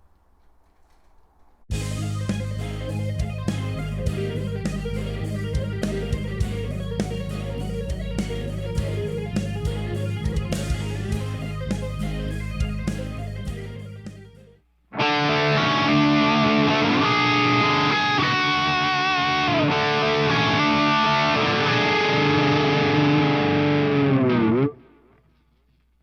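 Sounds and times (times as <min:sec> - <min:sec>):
distorted electric guitar: 0:01.7 - 0:25.4.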